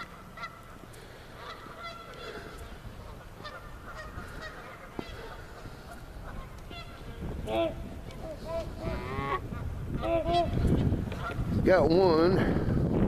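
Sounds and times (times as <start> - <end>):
geese honking: 0.0 - 11.5.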